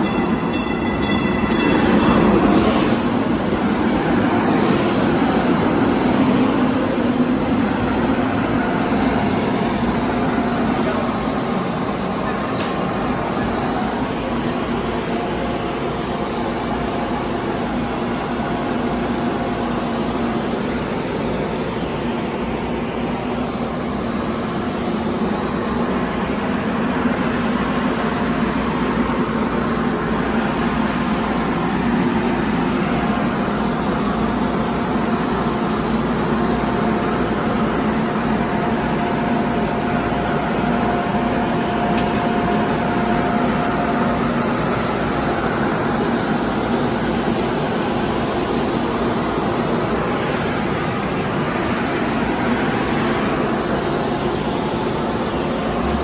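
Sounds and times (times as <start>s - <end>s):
air conditioning hum: 0.0s - 56.0s.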